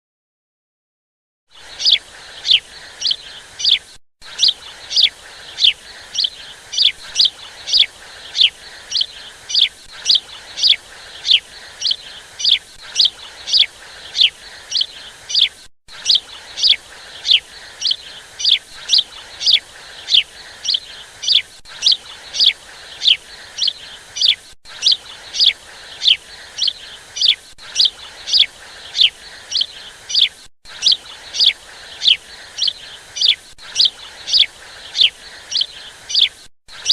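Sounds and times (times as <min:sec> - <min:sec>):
bird chirping: 0:01.6 - 0:36.9.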